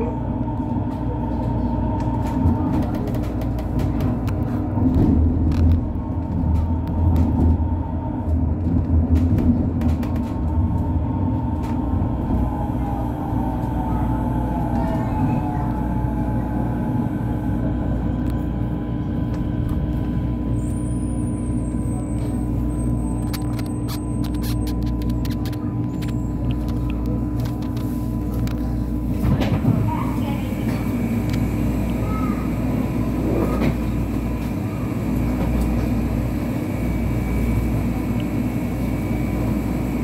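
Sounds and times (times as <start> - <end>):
wheel and rail rumble: 0.0 - 40.0.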